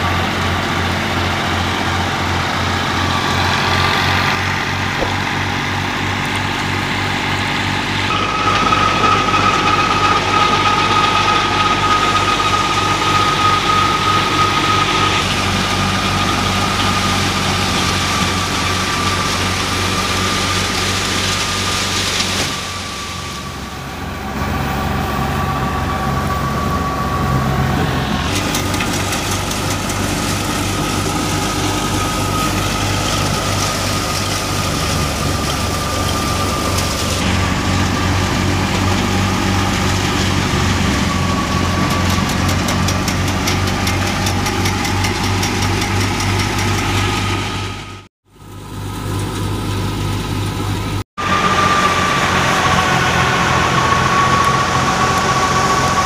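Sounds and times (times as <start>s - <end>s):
diesel tractor engine under load: 0.0s - 56.0s
straw rushing through thresher: 0.0s - 56.0s
thresher high whine: 0.0s - 56.0s.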